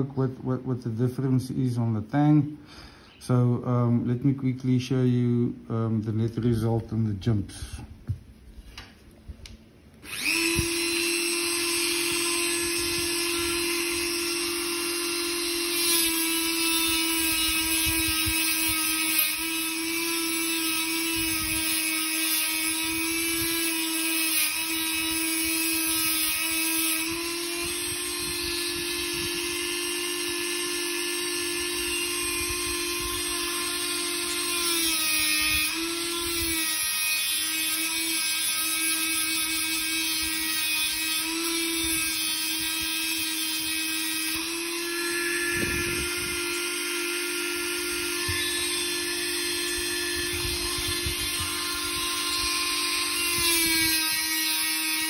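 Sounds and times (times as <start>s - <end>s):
rotary tool whining: 10.0s - 55.0s
wire brush scrubbing steel: 10.1s - 55.0s.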